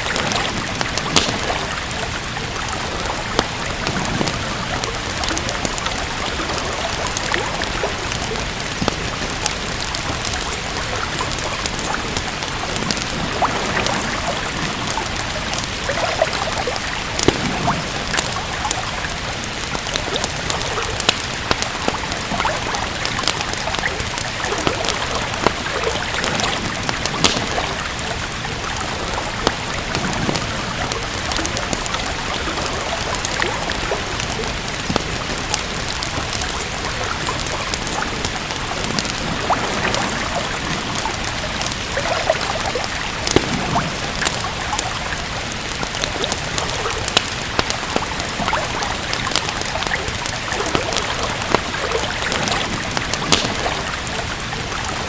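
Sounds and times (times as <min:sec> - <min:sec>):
steady rain: 0:00.0 - 0:55.0
wood fire crackling: 0:00.0 - 0:55.0.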